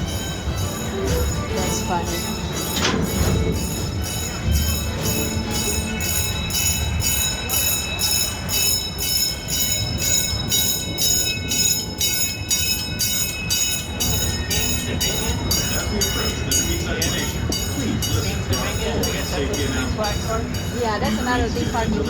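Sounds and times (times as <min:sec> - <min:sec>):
low rumble of train cars: 0:00.0 - 0:22.0.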